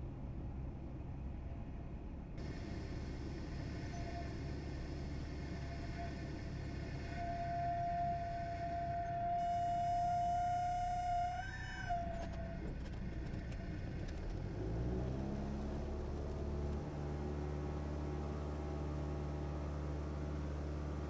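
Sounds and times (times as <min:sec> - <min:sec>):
light aircraft engine: 0:00.0 - 0:21.0.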